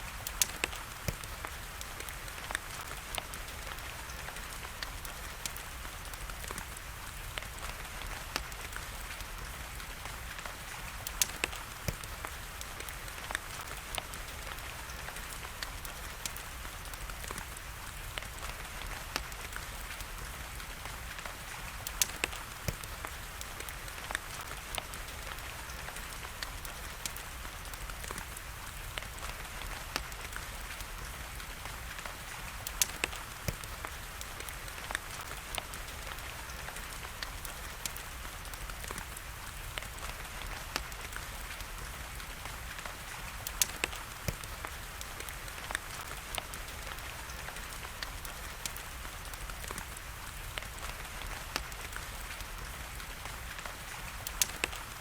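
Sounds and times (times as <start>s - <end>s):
rain falling: 0.0s - 55.0s
wood fire crackling: 0.0s - 55.0s.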